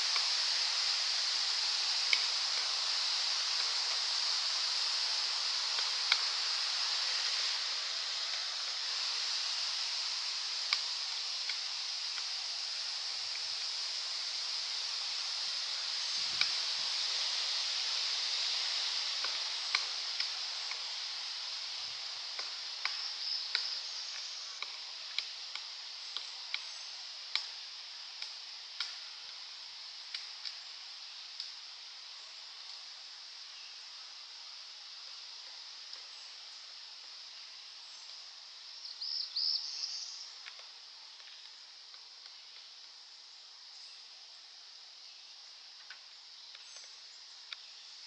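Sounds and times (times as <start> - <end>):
steady high hiss: 0.0 - 48.0.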